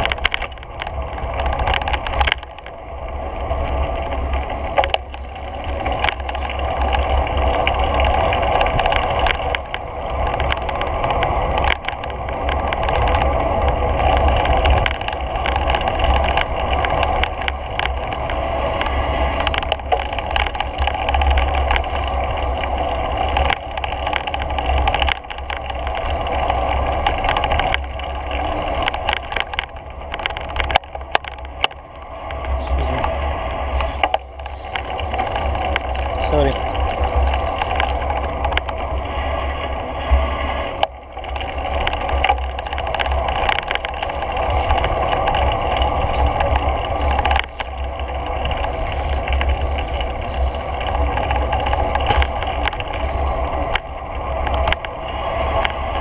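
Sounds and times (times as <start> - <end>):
light clicks and rattles: 0.0 - 56.0
wheels humming on pavement: 0.0 - 56.0
wind rumble on microphone: 0.0 - 56.0.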